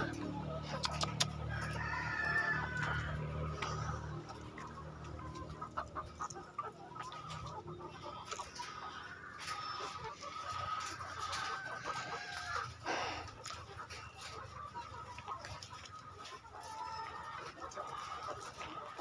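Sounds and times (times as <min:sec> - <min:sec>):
hens clucking and calling: 0:00.0 - 0:19.0.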